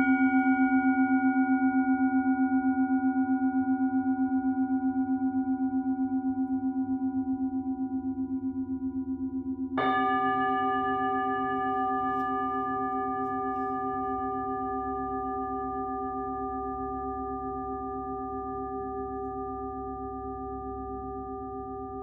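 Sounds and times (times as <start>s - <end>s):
singing bowls ringing: 0.0s - 22.0s.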